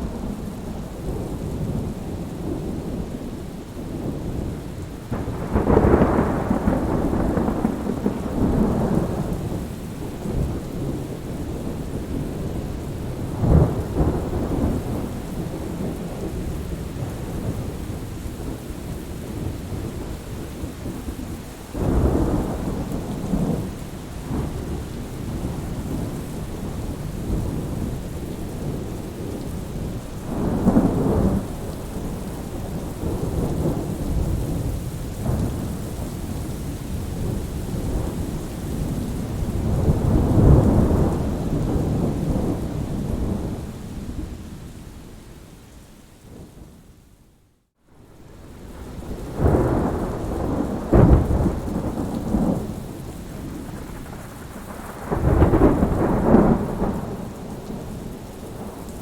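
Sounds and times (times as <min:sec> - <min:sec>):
steady rain: 0:00.0 - 0:59.0
low thunder rolls: 0:03.6 - 0:21.0, 0:21.8 - 0:44.5, 0:48.0 - 0:59.0.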